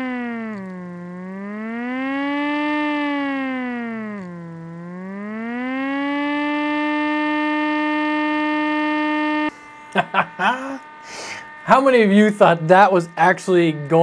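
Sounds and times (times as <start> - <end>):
small siren wailing: 0.0 - 14.0.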